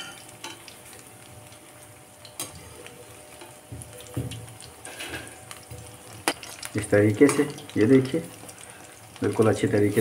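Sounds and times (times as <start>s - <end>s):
fish pakoras sizzling in oil: 0.0s - 10.0s.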